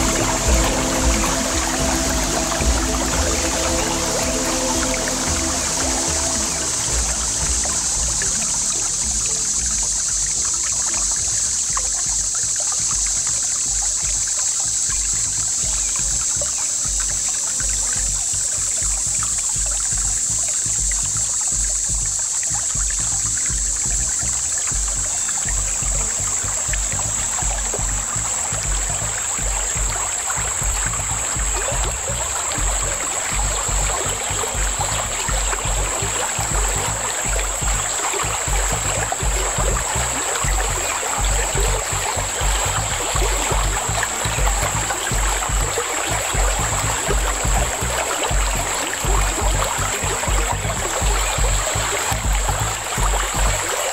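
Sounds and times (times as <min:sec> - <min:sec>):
high-pitched whine: 0:00.0 - 0:53.9
low uneven rumbling: 0:00.0 - 0:53.9
water rushing over creek riffle: 0:00.0 - 0:53.9.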